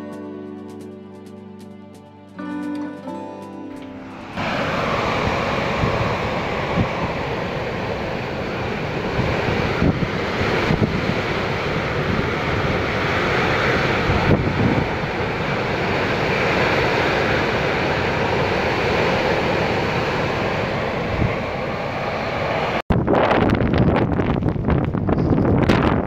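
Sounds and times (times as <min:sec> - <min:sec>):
storm wind rushing: 0:04.0 - 0:26.0
wind buffeting microphone: 0:04.1 - 0:26.0.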